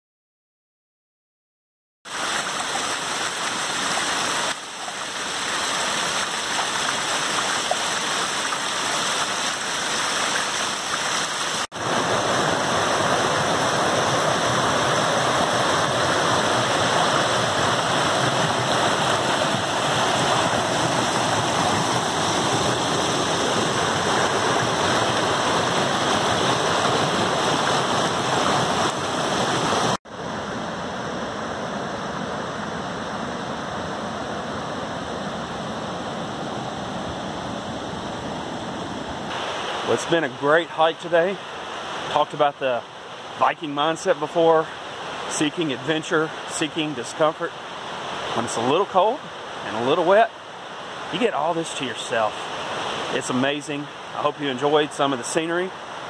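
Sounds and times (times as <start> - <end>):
creek water rushing over boulders: 2.1 - 31.3, 32.2 - 56.0.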